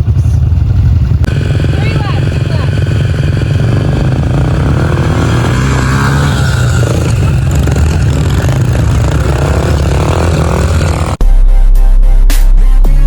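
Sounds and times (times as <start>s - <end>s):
pit bike engines revving: 0.0s - 11.2s.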